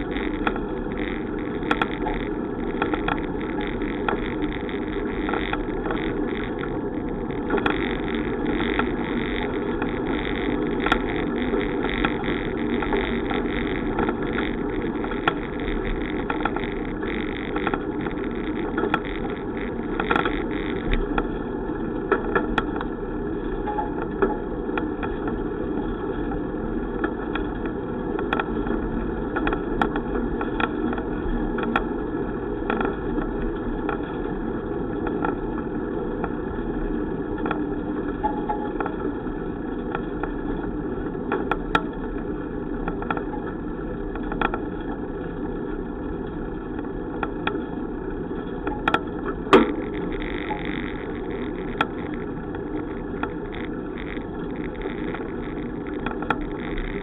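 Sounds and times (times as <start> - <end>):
bicycle rumbling in motion: 0.0 - 57.0
small clicks and rattles: 0.0 - 57.0
wind noise: 0.0 - 57.0.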